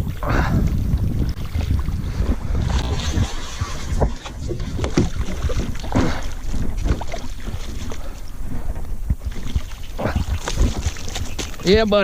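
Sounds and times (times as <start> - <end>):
wind on microphone: 0.0 - 12.0
fish thrashing and splashing: 1.3 - 11.8.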